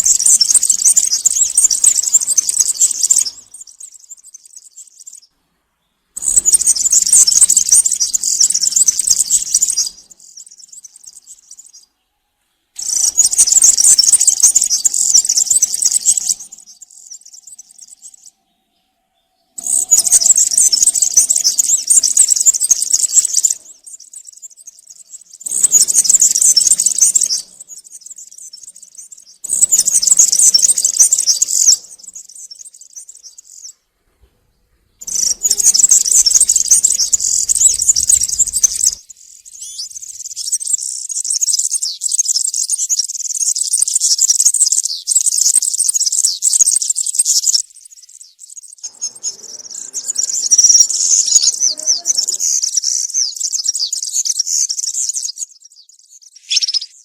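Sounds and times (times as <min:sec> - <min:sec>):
bird singing high-pitched: 0:00.0 - 0:05.3, 0:06.2 - 0:12.1, 0:12.7 - 0:33.8, 0:35.0 - 0:57.0.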